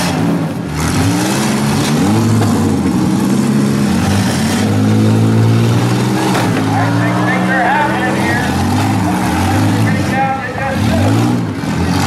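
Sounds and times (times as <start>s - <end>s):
minivan engines revving: 0.0s - 12.0s.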